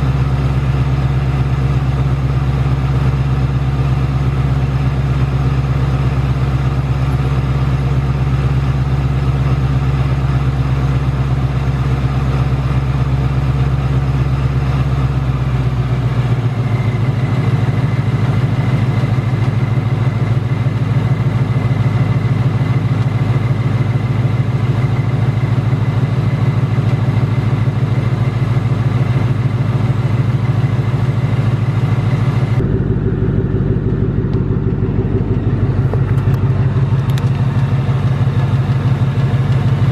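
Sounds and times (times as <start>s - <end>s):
car engine idling: 0.0s - 39.9s
engine ticking: 0.0s - 39.9s.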